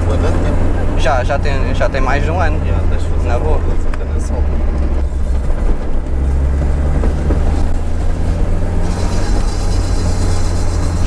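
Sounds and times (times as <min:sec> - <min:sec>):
car engine humming inside cabin: 0:00.0 - 0:11.0.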